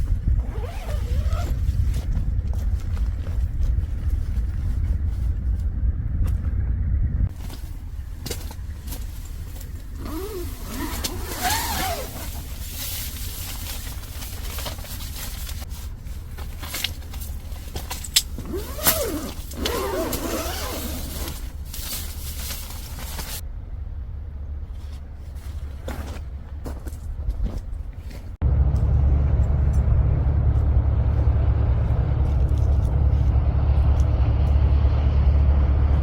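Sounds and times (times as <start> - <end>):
low vehicle rumble: 0.0 - 36.0.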